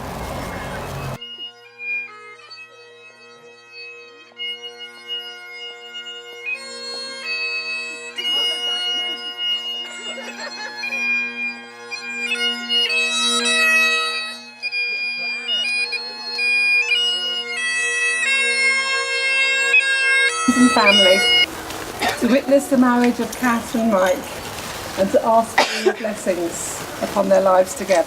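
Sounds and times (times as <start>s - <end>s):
bagpipes playing slow tune: 1.1s - 27.7s.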